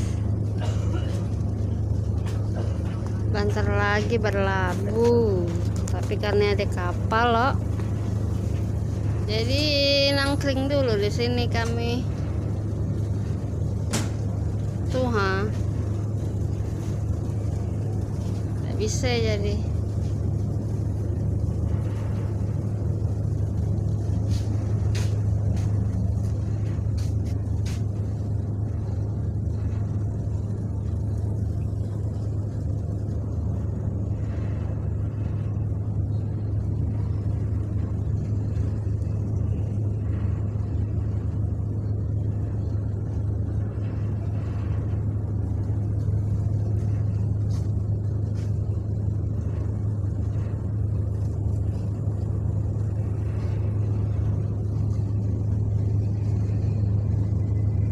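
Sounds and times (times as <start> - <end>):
ship engine low drone: 0.0 - 57.9.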